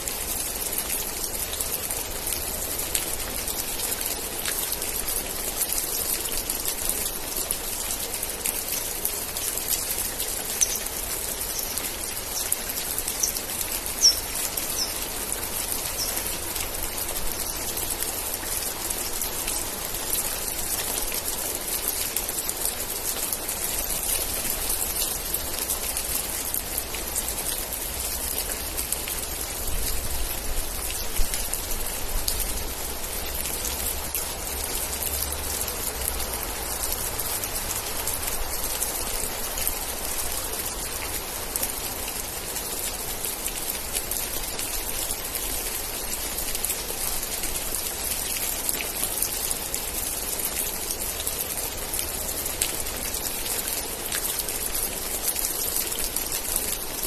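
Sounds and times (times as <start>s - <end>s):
raindrops striking close by: 0.0s - 57.0s
steady rain falling: 0.0s - 57.0s.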